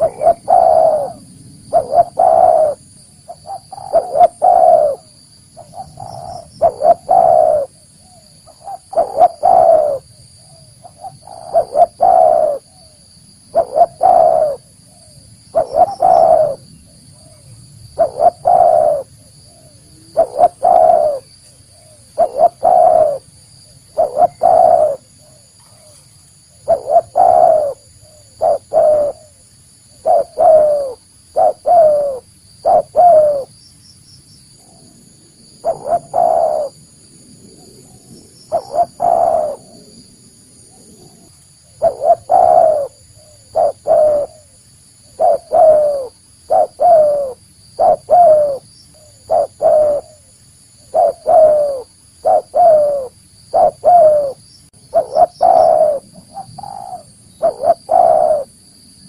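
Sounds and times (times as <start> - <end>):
dove cooing: 0.0 - 33.6, 34.6 - 58.6.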